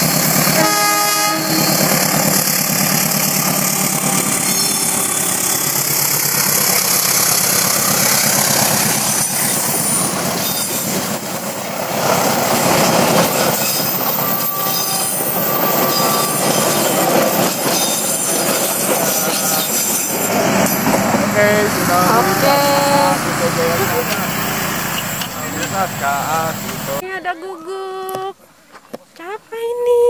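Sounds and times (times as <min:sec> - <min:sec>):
train carriages rolling past: 0:00.0 - 0:27.0
wheels squealing on rails: 0:00.0 - 0:27.0.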